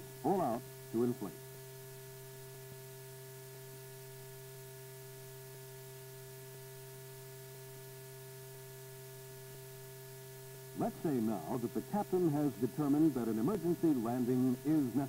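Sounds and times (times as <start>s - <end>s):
film soundtrack hiss: 0.0s - 15.0s
steady hum with fixed tones: 0.0s - 15.0s.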